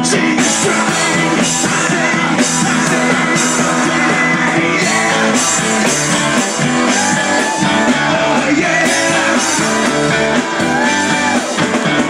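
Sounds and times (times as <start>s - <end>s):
rock band playing live: 0.0s - 12.0s.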